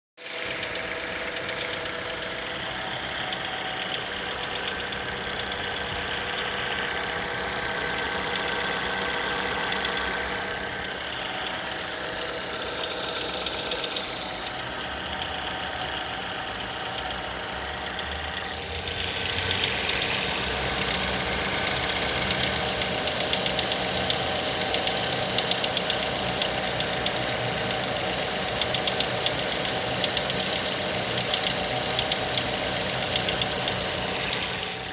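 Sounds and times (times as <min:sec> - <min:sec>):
car engine idling: 0:00.2 - 0:34.9
engine ticking knock: 0:00.2 - 0:34.9.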